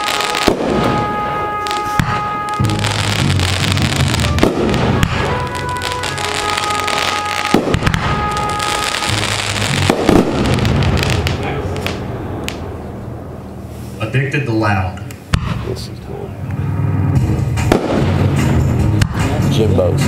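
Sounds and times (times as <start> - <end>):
loud firework bangs: 0.0 - 14.0, 15.2 - 15.9, 17.5 - 19.2
fireworks launching and bursting: 0.0 - 16.0, 16.8 - 19.4.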